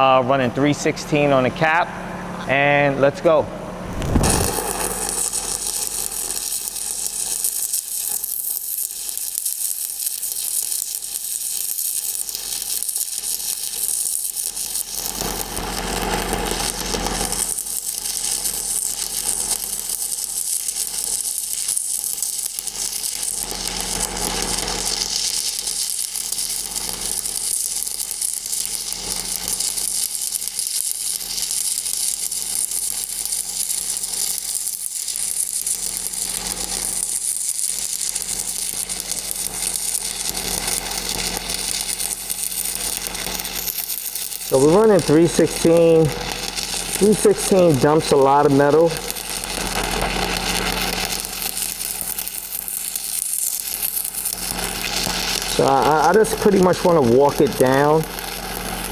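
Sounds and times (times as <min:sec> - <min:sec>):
welding arc crackling: 0:03.8 - 0:58.9.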